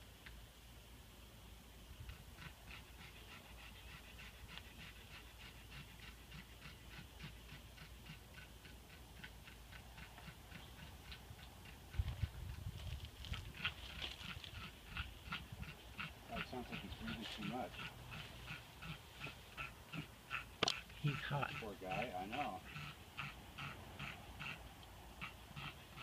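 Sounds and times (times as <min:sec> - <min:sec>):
dog panting fast: 0:02.1 - 0:24.6.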